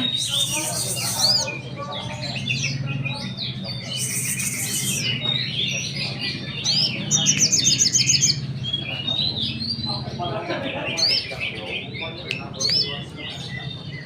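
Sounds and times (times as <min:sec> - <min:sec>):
other birds calling: 0:00.0 - 0:14.0
songbird singing: 0:00.0 - 0:14.0
steady low hum: 0:00.0 - 0:14.0.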